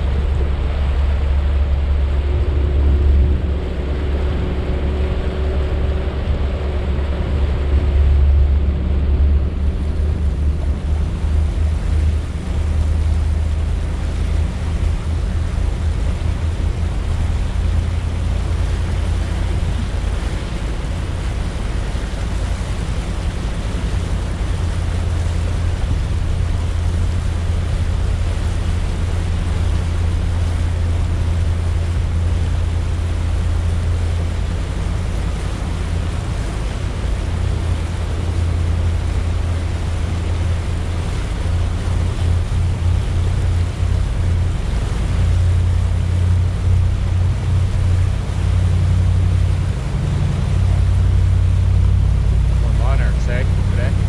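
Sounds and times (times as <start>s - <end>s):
wind on microphone: 0.0s - 52.7s
boat engine drone: 0.0s - 54.0s
water rushing past hull: 0.0s - 54.0s.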